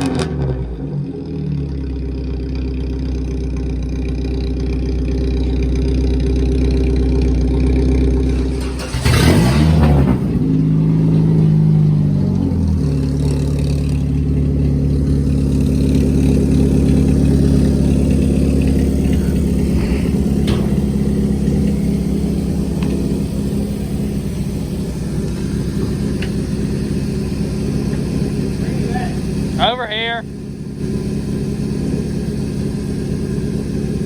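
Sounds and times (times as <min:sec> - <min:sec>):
race car engine revving and idling: 0:00.0 - 0:34.0.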